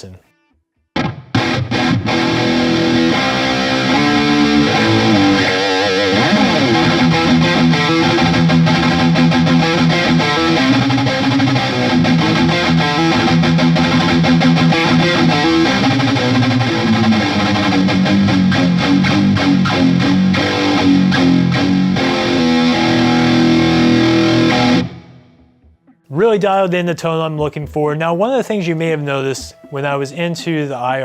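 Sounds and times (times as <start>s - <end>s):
electric guitar playing: 0.3s - 26.3s.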